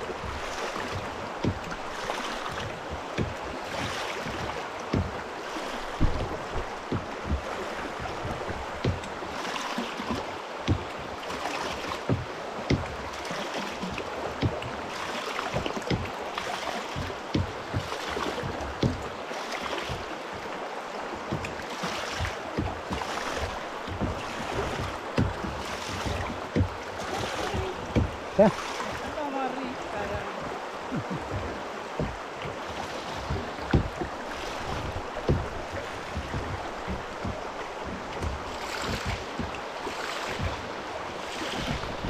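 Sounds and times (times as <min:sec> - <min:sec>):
river rapids rushing: 0:00.0 - 0:42.0
water thumping against hull: 0:00.0 - 0:42.0.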